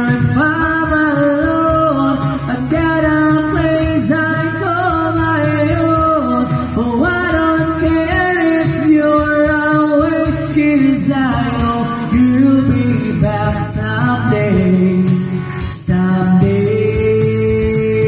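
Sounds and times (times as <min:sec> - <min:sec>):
backing music: 0:00.0 - 0:18.0
person singing into a microphone: 0:00.0 - 0:18.0.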